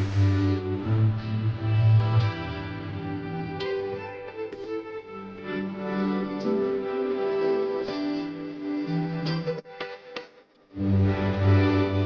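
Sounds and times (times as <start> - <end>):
sustained low chord music: 0.0 - 9.6, 10.8 - 12.0.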